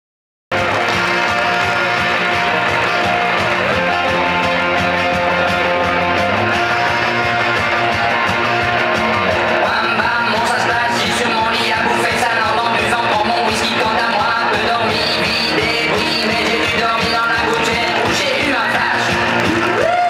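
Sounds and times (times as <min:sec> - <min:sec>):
rock music with guitar: 0:00.5 - 0:20.0.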